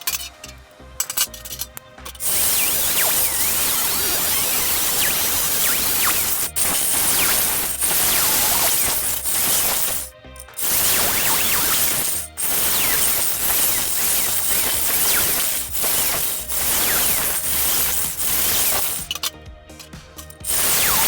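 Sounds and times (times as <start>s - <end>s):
power tool on sheet steel: 2.2s - 19.1s, 20.4s - 21.0s.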